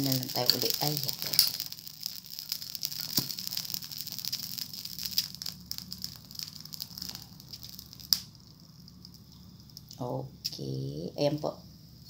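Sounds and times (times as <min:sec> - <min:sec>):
spaghetti burning and crackling: 0:00.0 - 0:12.0.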